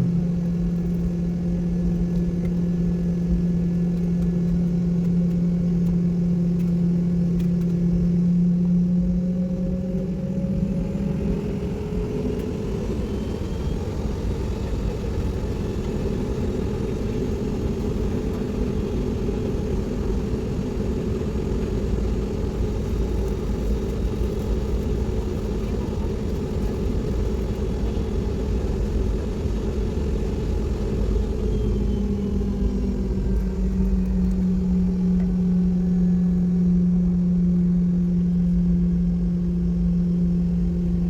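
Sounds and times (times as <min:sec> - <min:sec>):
airliner cabin drone: 0:00.0 - 0:41.0.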